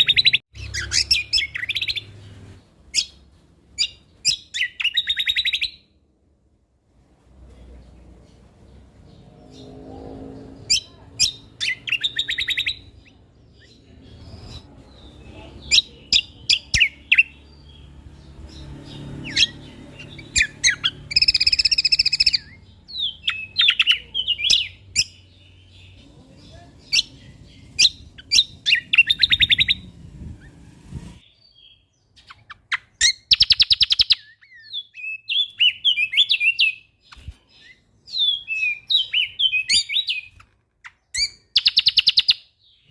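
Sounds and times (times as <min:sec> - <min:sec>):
bird singing chirps and trills: 0:00.0 - 0:06.0, 0:07.6 - 0:30.6, 0:31.2 - 0:42.9.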